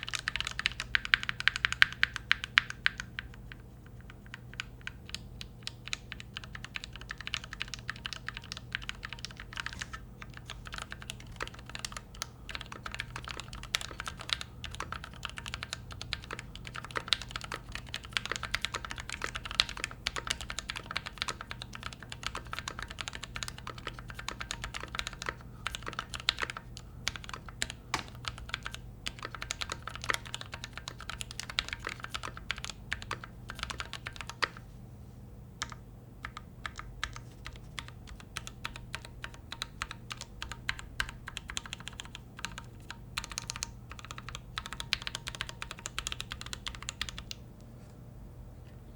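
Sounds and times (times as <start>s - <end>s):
mechanical keyboard typing: 0.0s - 34.6s, 35.6s - 47.4s.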